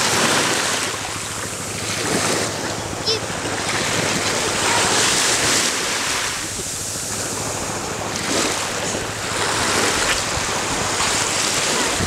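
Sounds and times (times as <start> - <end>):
water splashing around people: 0.0 - 12.0
wind on microphone: 0.0 - 12.0.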